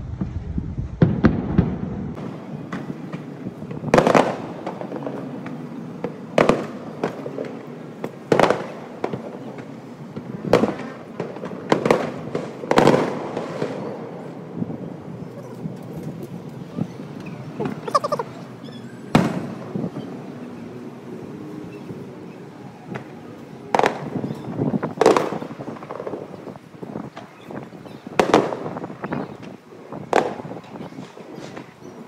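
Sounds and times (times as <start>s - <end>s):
fireworks popping and crackling: 0.0s - 18.3s, 19.1s - 21.4s, 22.0s - 32.0s
fireworks booming: 0.0s - 20.3s, 22.9s - 31.9s.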